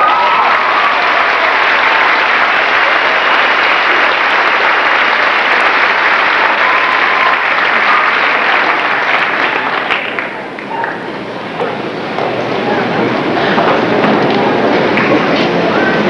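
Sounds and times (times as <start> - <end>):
large audience applauding: 0.0 - 11.1, 13.4 - 16.0.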